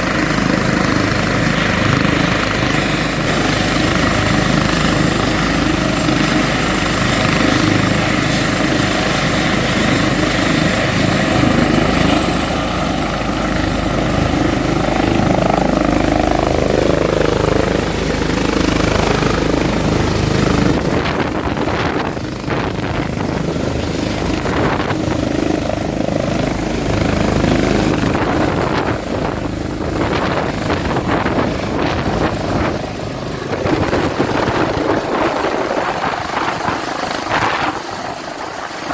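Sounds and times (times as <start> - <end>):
helicopter rotor noise: 0.0 - 38.9
helicopter turbine whine: 0.0 - 38.9.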